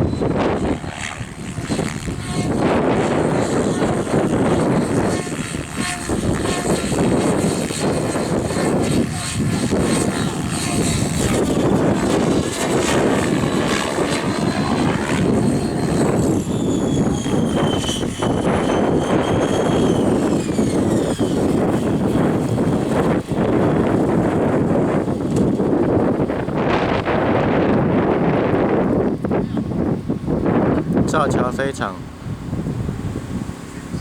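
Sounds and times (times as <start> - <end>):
rc helicopter motor and rotor whine: 0.0 - 34.0
wind buffeting microphone: 0.0 - 34.0.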